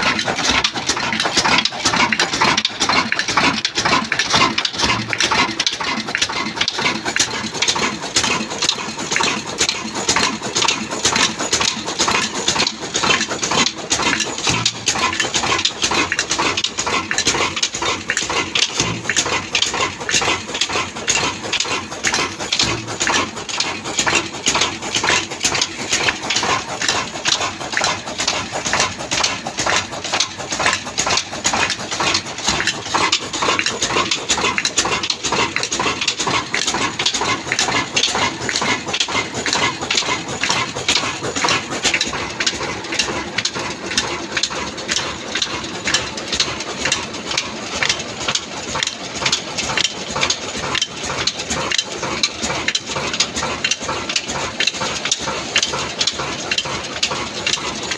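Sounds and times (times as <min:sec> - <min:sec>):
stationary diesel engine running: 0:00.0 - 0:57.9.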